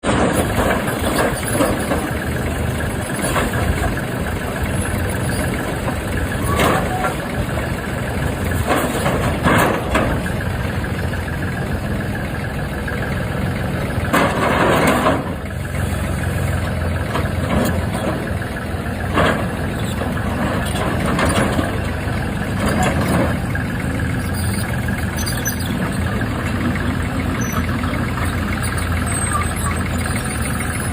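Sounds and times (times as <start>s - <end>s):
heavy machinery engine running: 0.0s - 30.9s.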